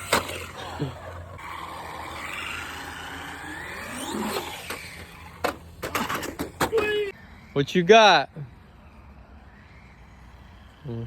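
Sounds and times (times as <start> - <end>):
rc car motor whining: 0.0 - 7.5, 8.4 - 11.0.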